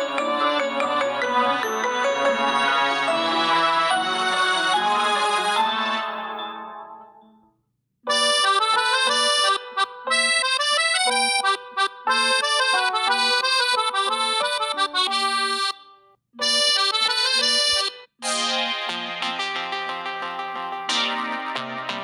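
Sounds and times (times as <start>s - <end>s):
melodic ringtone with chords: 0.0s - 7.2s, 10.5s - 15.8s, 16.4s - 22.0s.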